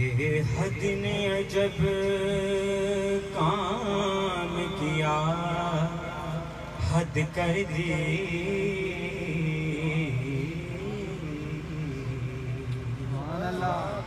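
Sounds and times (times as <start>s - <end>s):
low steady drone: 0.0s - 14.0s
man singing into a microphone: 0.0s - 14.0s.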